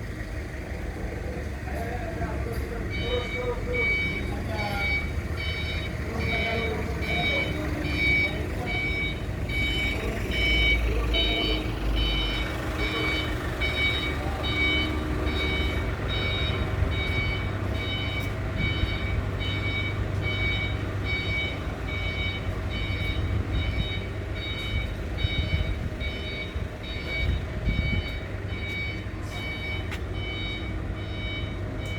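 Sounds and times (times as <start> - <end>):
diesel engine running: 0.0 - 31.9
reversing alarm beeping: 1.6 - 31.9.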